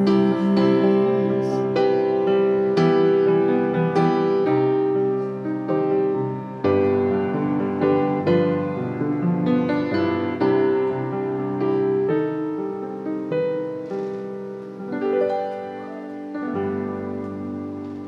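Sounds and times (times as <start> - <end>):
solo piano chords: 0.0 - 18.0.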